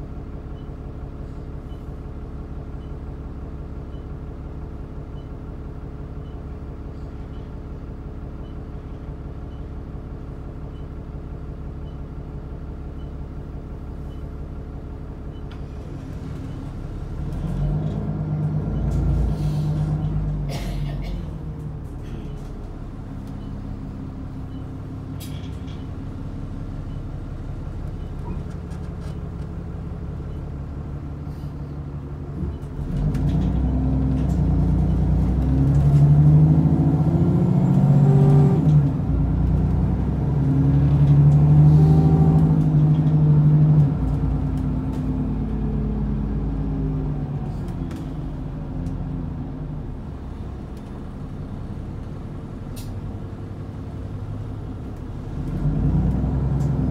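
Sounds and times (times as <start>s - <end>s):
bus engine accelerating: 0.0s - 56.9s.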